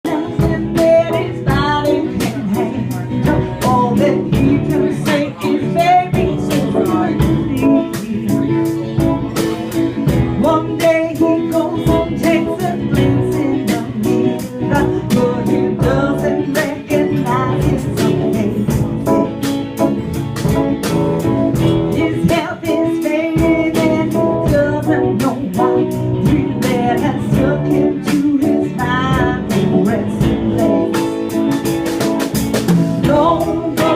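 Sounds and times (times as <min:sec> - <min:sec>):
guitar strumming: 0:00.1 - 0:33.9.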